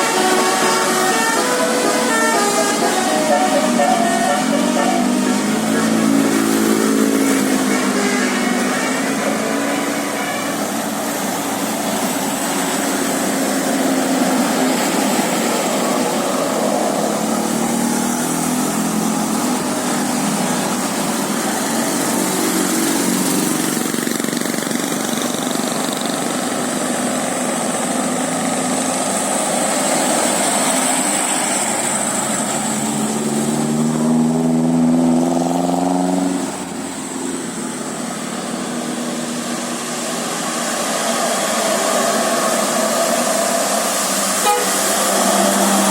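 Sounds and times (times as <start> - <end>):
bus engine revving: 0.0 - 45.9.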